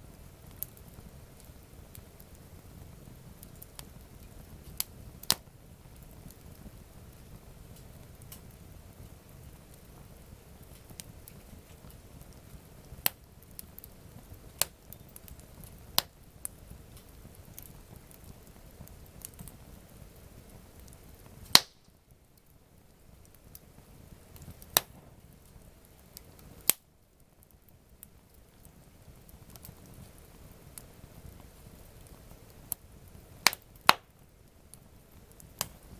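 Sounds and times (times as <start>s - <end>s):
campfire crackling: 0.0s - 35.9s
faint low background noise: 0.0s - 35.9s.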